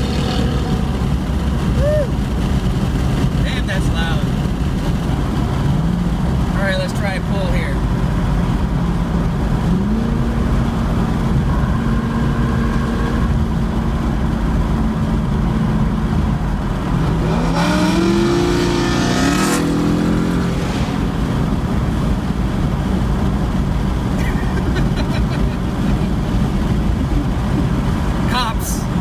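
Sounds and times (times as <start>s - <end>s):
car engine accelerating through upshifts: 0.0s - 7.0s, 7.8s - 28.4s.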